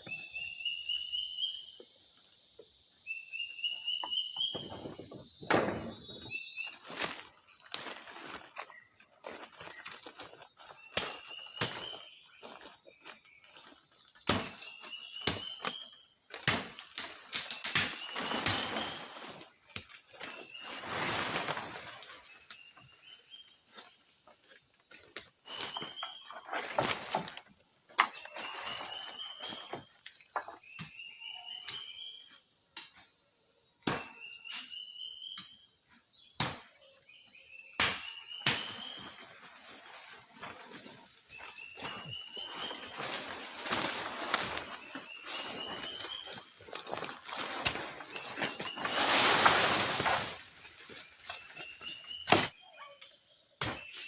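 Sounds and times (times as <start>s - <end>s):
rustling in undergrowth: 3.0s - 32.2s, 38.2s - 52.5s.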